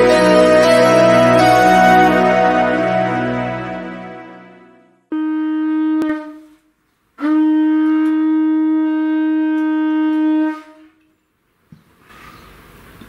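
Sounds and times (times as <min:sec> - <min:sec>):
conch shell blown: 0:00.0 - 0:11.1.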